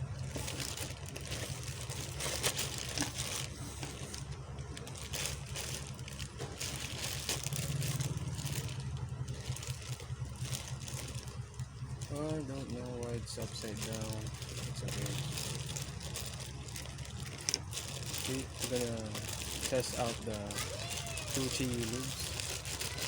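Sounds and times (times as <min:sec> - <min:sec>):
packaging rustling and crinkling: 0:00.0 - 0:23.0.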